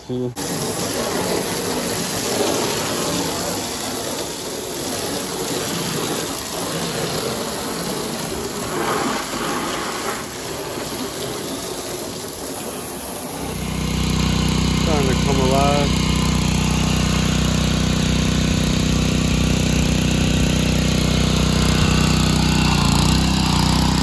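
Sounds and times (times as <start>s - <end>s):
hose water spraying on metal fins: 0.1s - 24.0s.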